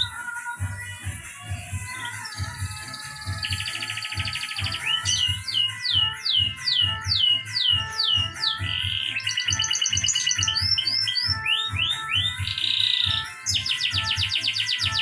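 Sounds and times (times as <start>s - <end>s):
songbird singing: 0.0s - 0.8s, 1.4s - 15.0s
background music with low beat: 0.0s - 15.0s.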